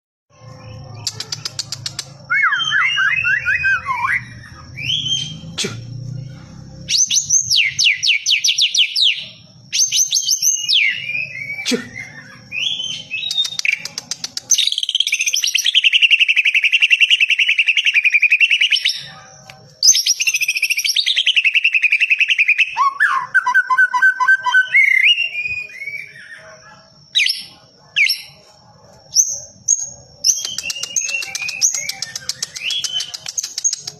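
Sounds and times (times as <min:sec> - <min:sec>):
bird singing whistled song: 0:00.5 - 0:28.4, 0:29.1 - 0:33.9.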